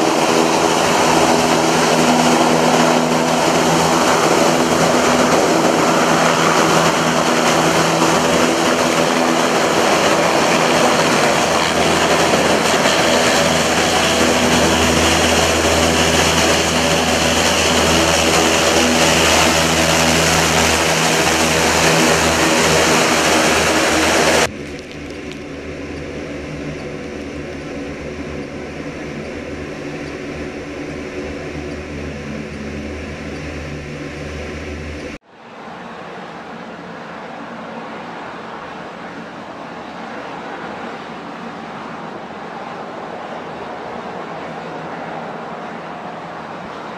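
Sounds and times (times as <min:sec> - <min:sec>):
hovercraft turbines and fans roaring: 0:00.0 - 0:46.9.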